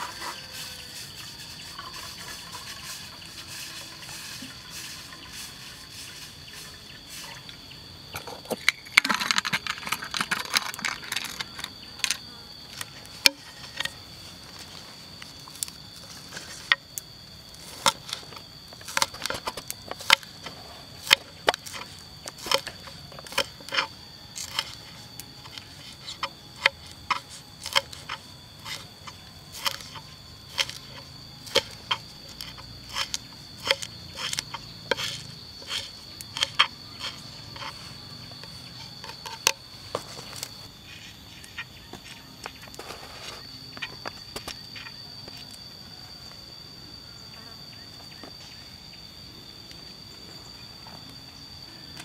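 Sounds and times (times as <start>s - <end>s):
high insect drone: 0.0s - 52.0s.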